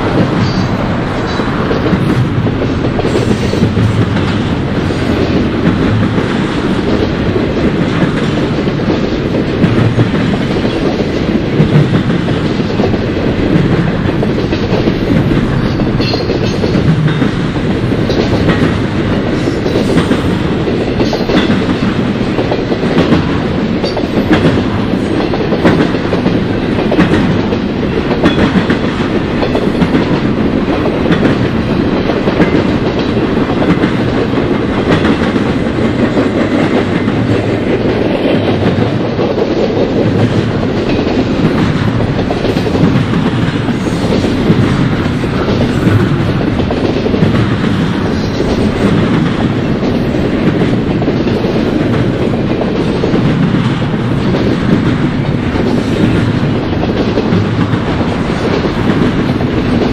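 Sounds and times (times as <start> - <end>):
freight train wheels rumbling: 0.0 - 59.9
wheel clickety-clack: 0.0 - 59.9.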